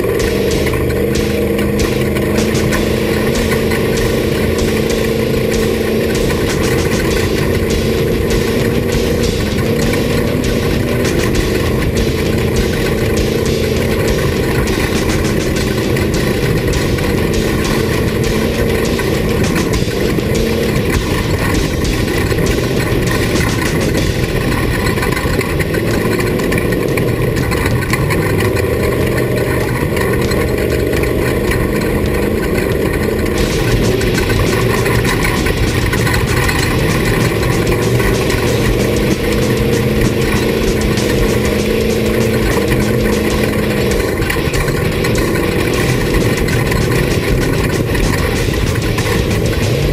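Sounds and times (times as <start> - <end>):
clatter and rattling: 0.0 - 49.9
off-road vehicle engine running: 0.0 - 49.9.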